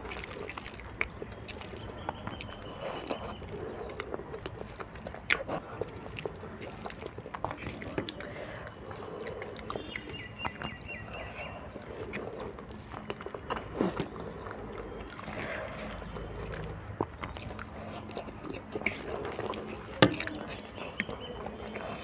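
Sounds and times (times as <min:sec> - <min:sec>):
person chewing noodles: 0:00.0 - 0:22.0.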